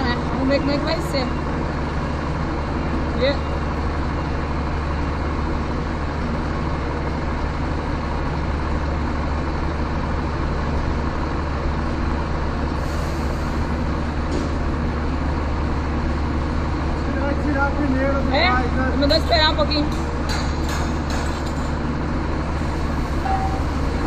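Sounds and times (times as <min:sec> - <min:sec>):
diesel truck engine humming: 0:00.0 - 0:24.0.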